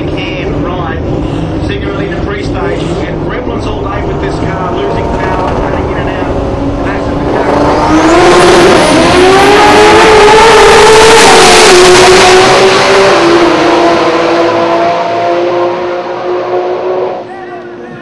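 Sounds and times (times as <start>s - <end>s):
drag racing cars accelerating: 0.0s - 18.0s.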